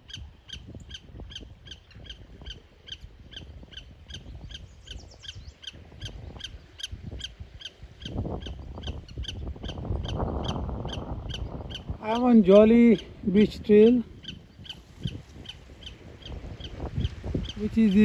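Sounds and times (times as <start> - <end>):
low rumble of wind or surf: 0.0 - 18.0.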